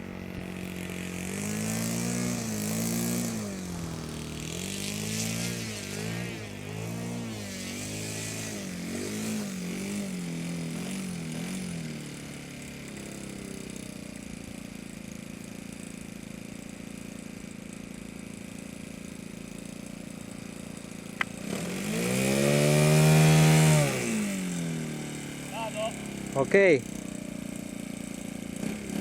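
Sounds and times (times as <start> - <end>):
model airplane engine running: 0.0 - 29.0.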